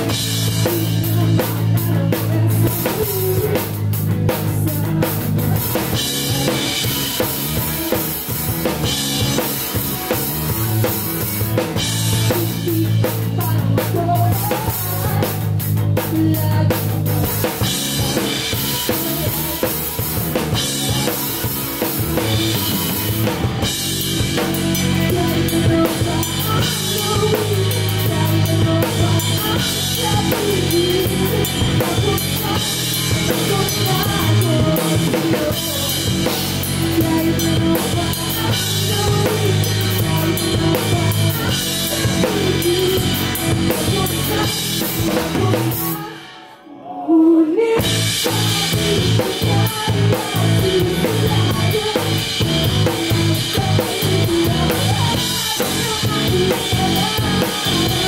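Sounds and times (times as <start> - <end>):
bass drum: 0.0 - 45.9, 47.8 - 58.0
live band playing: 0.0 - 46.6, 47.7 - 58.0.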